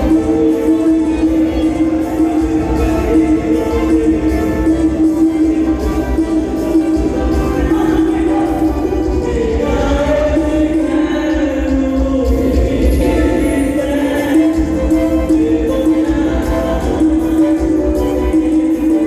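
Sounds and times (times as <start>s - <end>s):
heavy bass line: 0.0s - 18.5s
loud music with singing: 0.0s - 19.0s.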